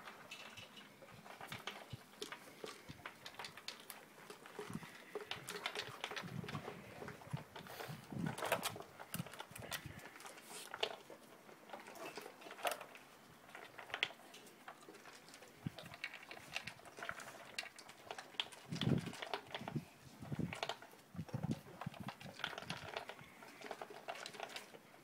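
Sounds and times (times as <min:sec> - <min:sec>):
dog chewing: 0:01.1 - 0:24.8.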